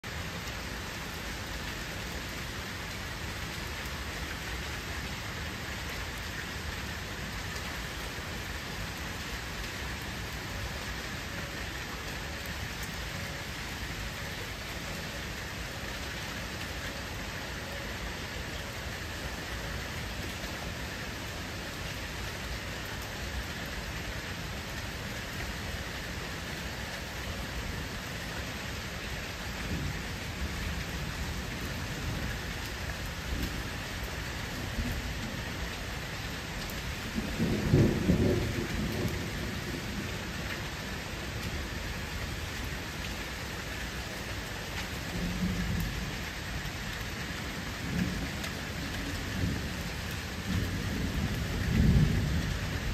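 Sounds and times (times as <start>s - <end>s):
rain falling on water: 0.0s - 52.9s.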